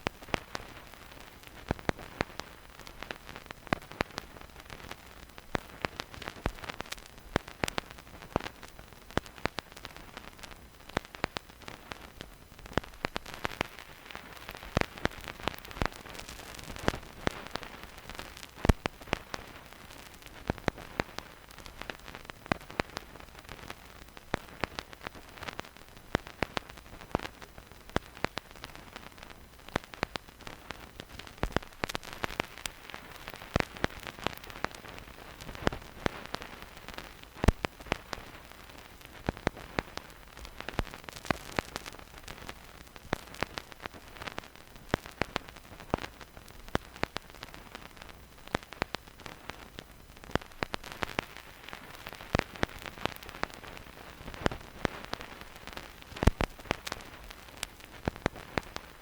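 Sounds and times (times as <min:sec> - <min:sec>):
vinyl crackles and pops: 0:00.0 - 0:59.0
vinyl record hiss: 0:00.0 - 0:59.0.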